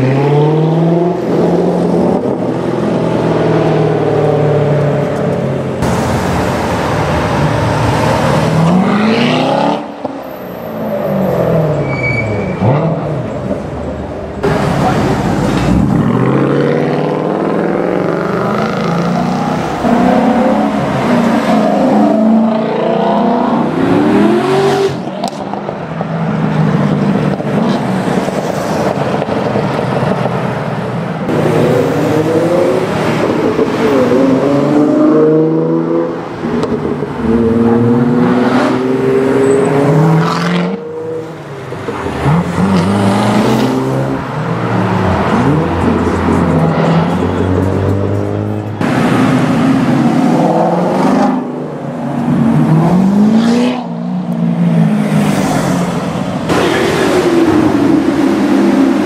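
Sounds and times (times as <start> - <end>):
car engines accelerating hard: 0.0 - 59.0.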